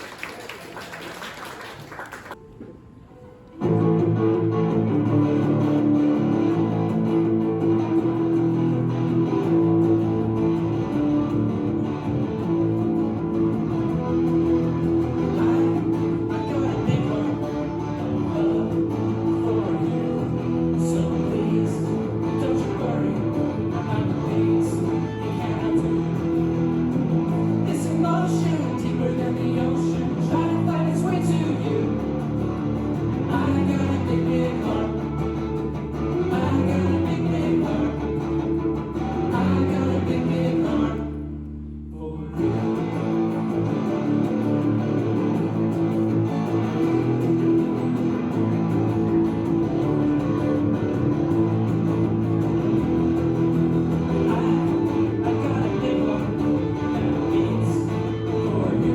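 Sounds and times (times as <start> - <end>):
strummed guitar: 2.4 - 58.9.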